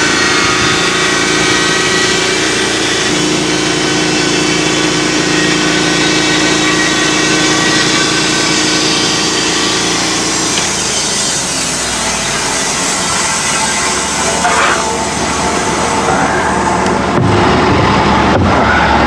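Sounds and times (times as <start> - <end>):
sawmill engine running under load: 0.0 - 19.0.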